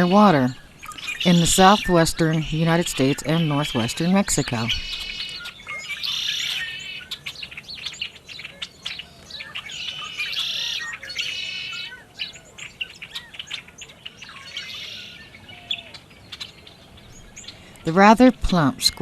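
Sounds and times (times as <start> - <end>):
harsh buzzy bird calls: 0.0 - 19.0
many birds chirping: 0.0 - 19.0.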